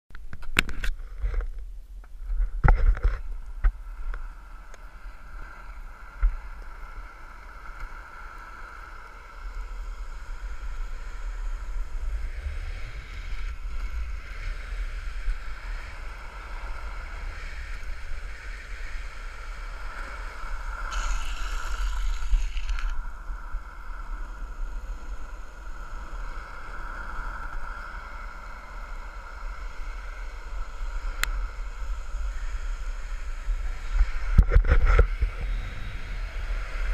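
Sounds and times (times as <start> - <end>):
wind rumbling on microphone: 0.1 - 36.9
skateboard wheels rolling on asphalt: 0.3 - 36.9.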